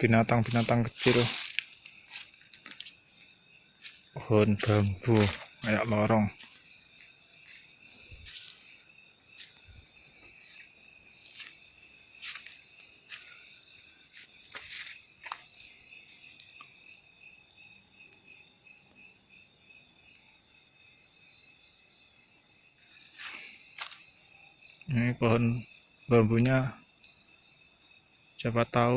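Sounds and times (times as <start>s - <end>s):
crickets chirring: 0.0s - 28.9s.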